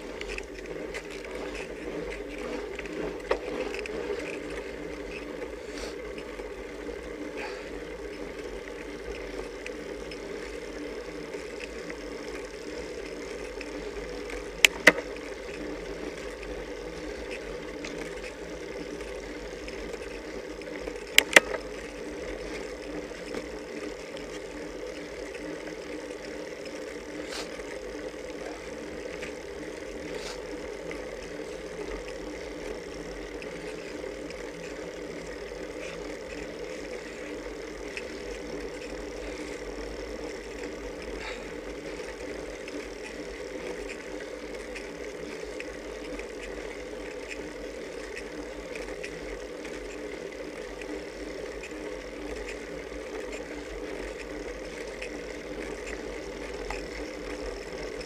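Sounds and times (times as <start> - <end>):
hum of bike tyres and drivetrain: 0.0 - 58.0
light ticks and rattles: 0.0 - 58.0.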